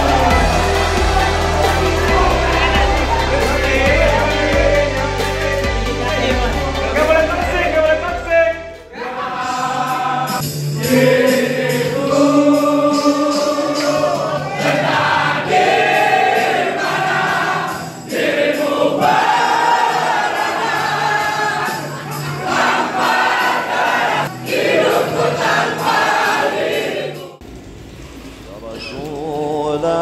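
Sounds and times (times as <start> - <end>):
group of people singing: 0.0 - 7.5, 8.8 - 27.4.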